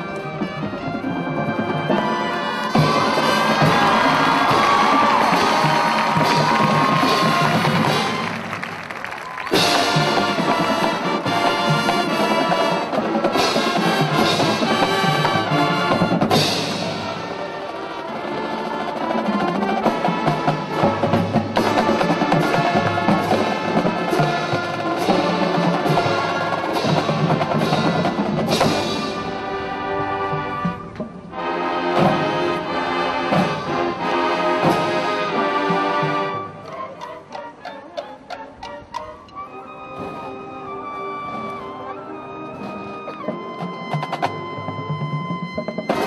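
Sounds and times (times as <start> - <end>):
marching band playing: 0.0 - 46.0.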